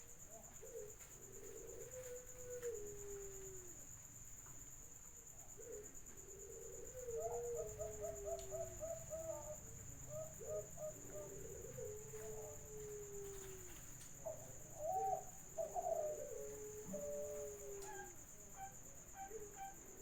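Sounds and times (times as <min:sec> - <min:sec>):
doves cooing: 0:00.0 - 0:04.0, 0:05.3 - 0:20.0.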